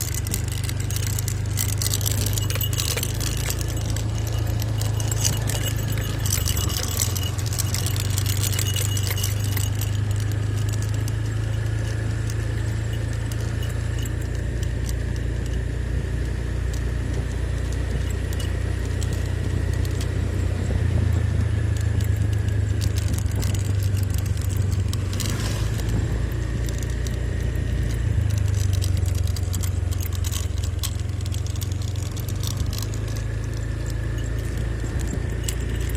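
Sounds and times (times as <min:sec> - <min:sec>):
jingling and rattling: 0:00.0 - 0:35.9
vehicle engine humming: 0:00.0 - 0:35.9.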